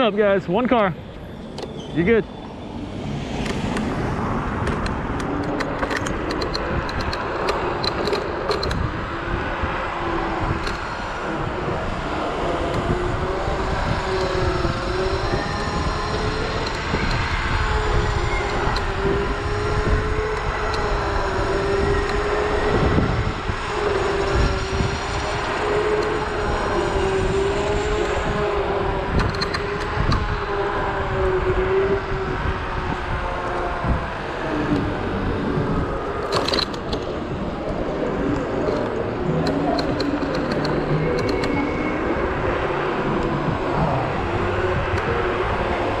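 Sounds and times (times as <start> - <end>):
electric scooter motor whining: 0.0 - 46.0
wind on microphone: 0.9 - 46.0.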